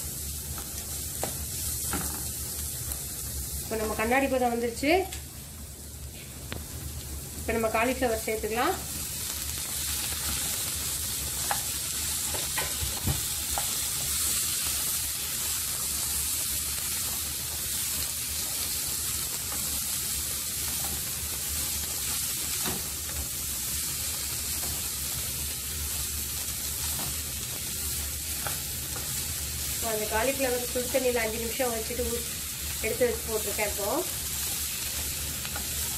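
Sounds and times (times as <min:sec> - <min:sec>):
vegetables sizzling in hot oil: 0:00.0 - 0:35.9.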